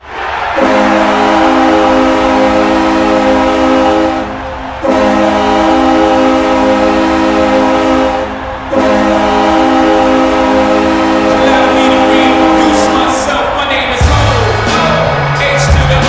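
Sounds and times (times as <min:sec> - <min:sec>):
goal horn blasts: 0:00.6 - 0:16.0.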